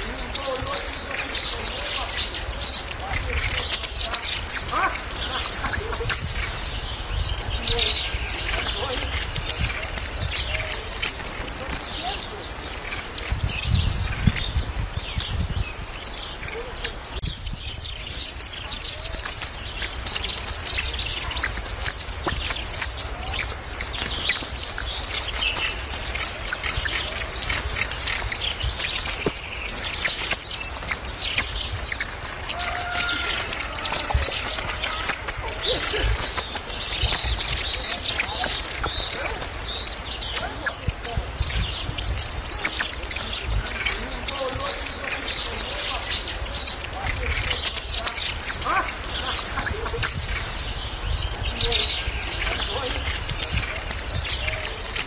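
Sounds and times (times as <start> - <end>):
bird twittering: 0.0 - 55.0.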